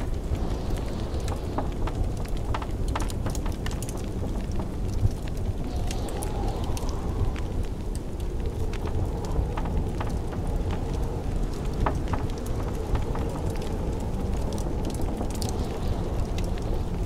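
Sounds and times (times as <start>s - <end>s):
blizzard wind blowing: 0.0s - 17.0s
wood fire crackling: 0.0s - 17.0s.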